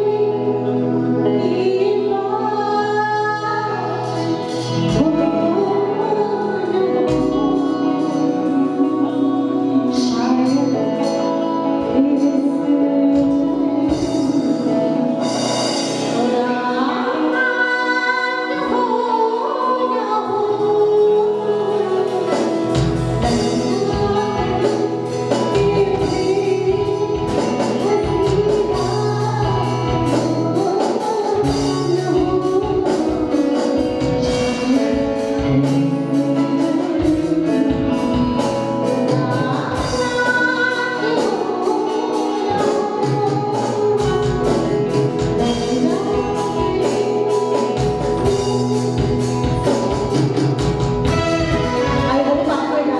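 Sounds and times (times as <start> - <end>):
live band playing: 0.0 - 52.9
woman singing into microphone: 0.0 - 52.9.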